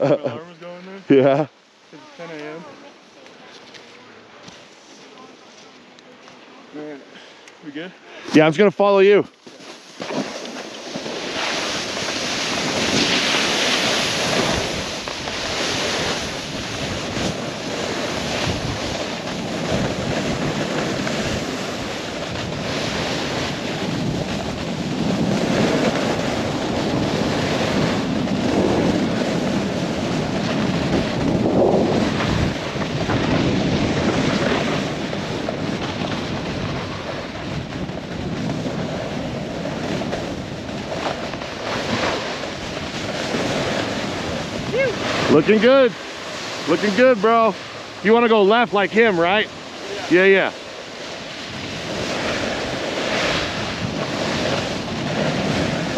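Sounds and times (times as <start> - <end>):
snowboards carving through snow: 7.7 - 55.9
wind rushing over microphone: 10.0 - 55.9.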